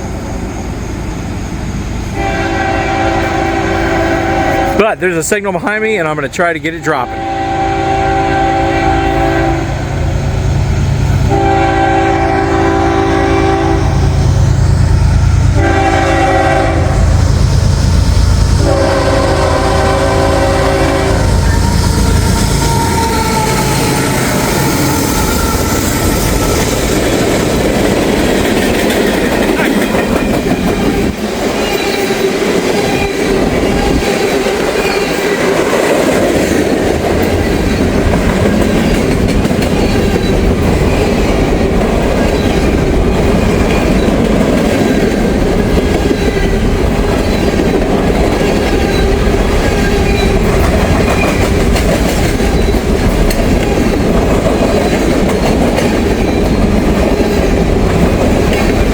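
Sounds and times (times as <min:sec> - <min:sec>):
freight train wheels clattering: 0:10.3 - 0:58.9.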